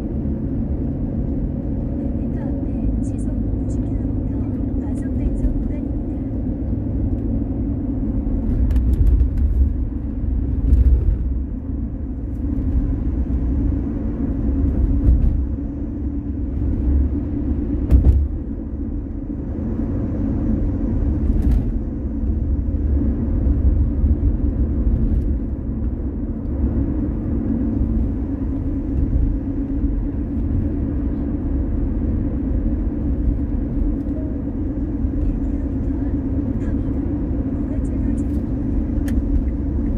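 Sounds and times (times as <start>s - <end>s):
car tyres and engine rumbling: 0.0s - 39.9s.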